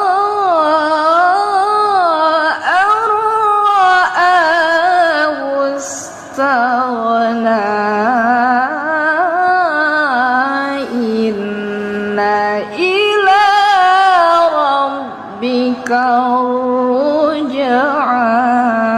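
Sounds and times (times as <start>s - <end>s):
woman reciting melodically: 0.0s - 18.9s.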